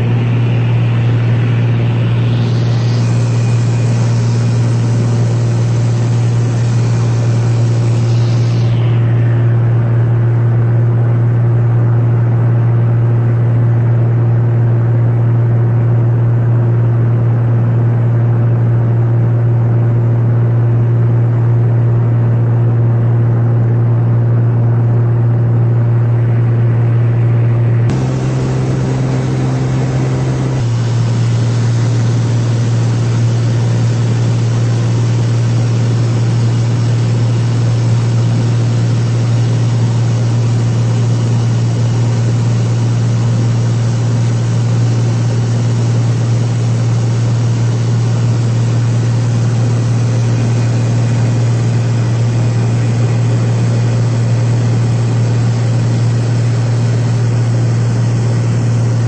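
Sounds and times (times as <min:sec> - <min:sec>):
propeller airplane engine droning: 0:00.0 - 0:59.0.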